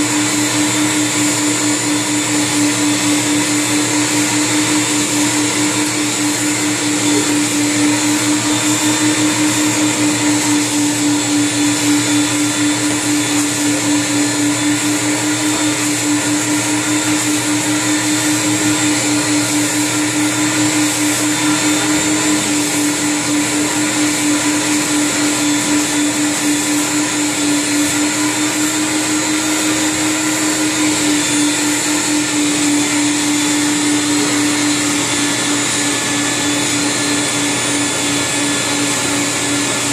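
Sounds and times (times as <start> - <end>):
carpet vacuum humming and hissing: 0.0 - 39.9.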